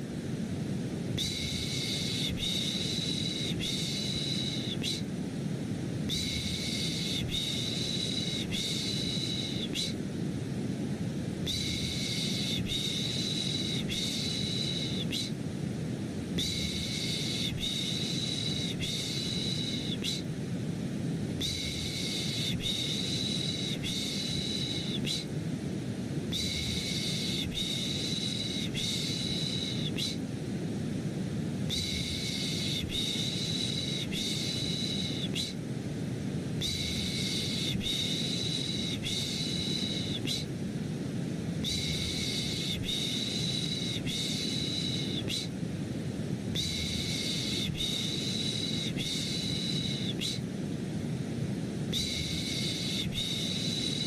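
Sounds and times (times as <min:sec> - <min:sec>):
deep white noise rush: 0:00.0 - 0:54.0.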